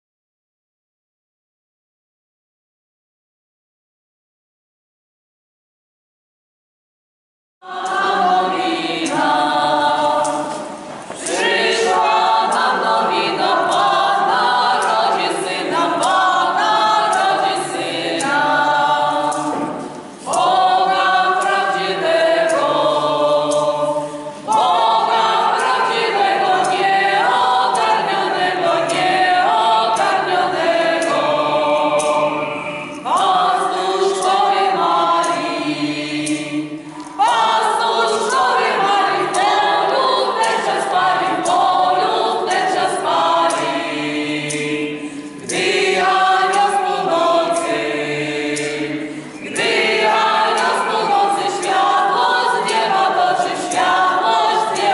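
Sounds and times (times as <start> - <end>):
mixed choir singing a cappella: 7.6 - 54.9.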